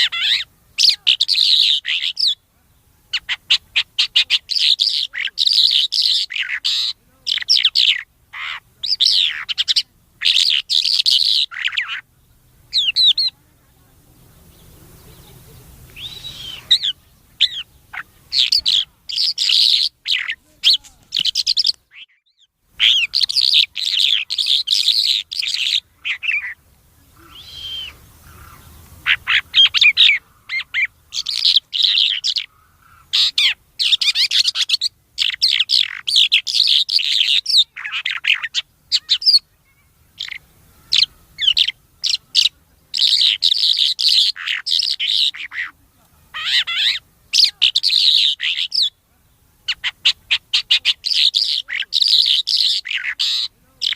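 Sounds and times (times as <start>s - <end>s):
songbird chirps and trills: 0.0s - 53.9s.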